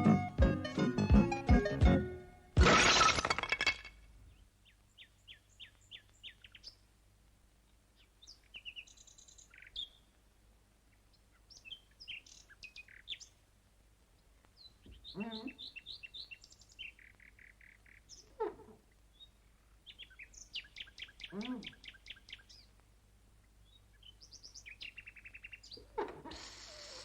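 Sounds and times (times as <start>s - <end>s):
songbirds chirping: 4.1s - 27.0s.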